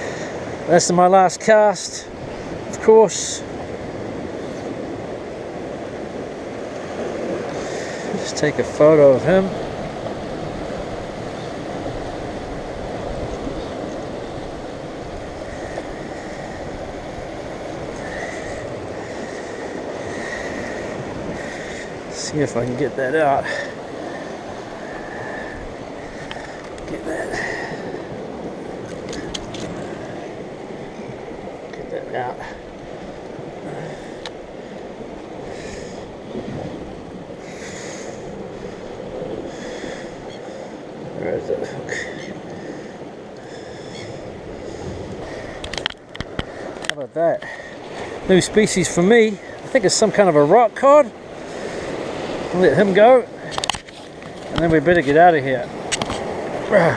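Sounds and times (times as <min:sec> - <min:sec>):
sea surf washing on rocks: 0:00.0 - 0:56.9.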